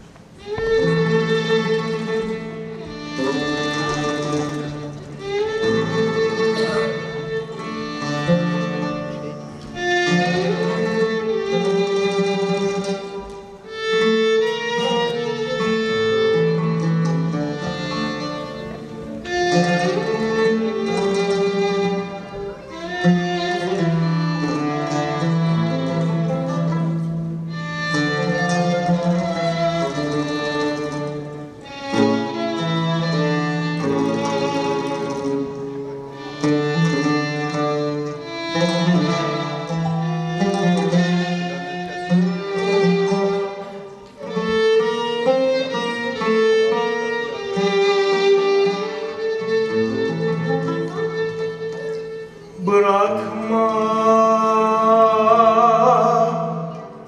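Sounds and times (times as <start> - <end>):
bowed strings melody: 0.0 - 57.0.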